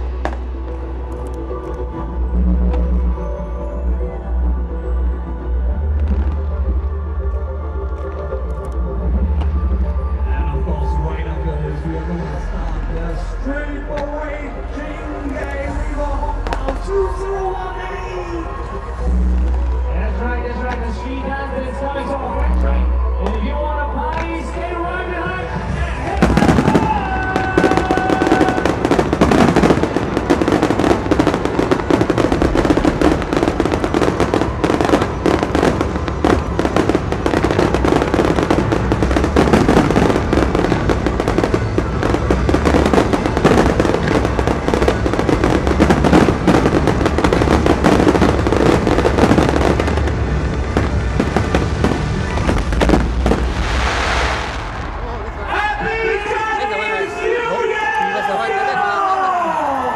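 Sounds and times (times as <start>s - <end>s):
fireworks bangs and crackling: 0.0s - 3.8s, 5.6s - 21.1s, 22.1s - 56.9s.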